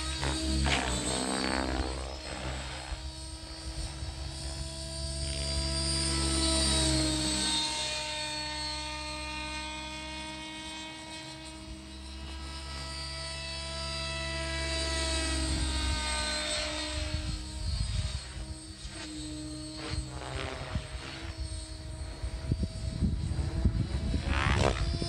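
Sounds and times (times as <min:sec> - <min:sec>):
rc helicopter motor whine: 0:00.0 - 0:25.0.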